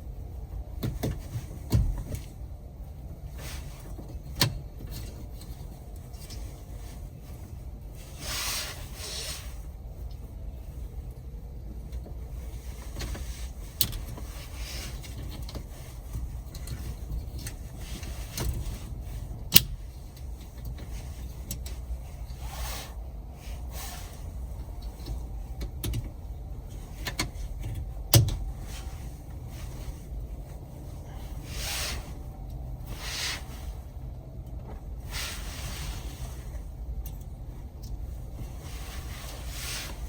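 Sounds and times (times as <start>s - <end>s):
steady low rumble: 0.0s - 40.0s
rustling swishes: 4.9s - 11.1s, 11.8s - 34.2s, 34.8s - 40.0s.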